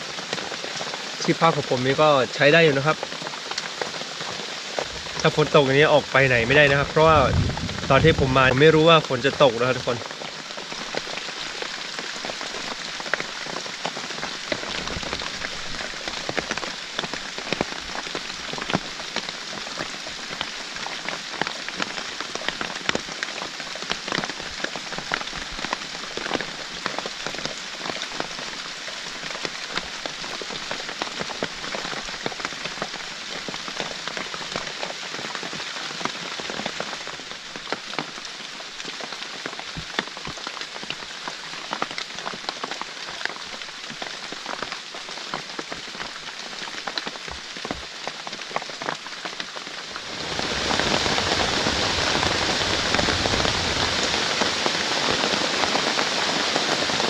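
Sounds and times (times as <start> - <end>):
heavy rain pouring: 0.0 - 57.0
raindrops striking close by: 0.0 - 57.0.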